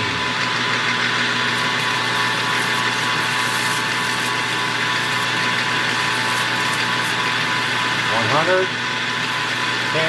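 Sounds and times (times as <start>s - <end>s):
metal lathe running: 0.0s - 10.0s.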